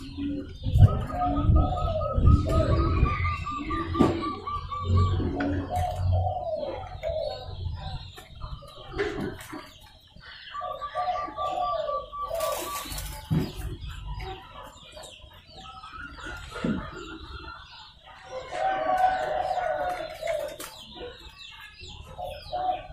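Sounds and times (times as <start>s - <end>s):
dove cooing: 0.0s - 15.2s, 15.8s - 22.9s
birds chirping: 0.0s - 22.9s.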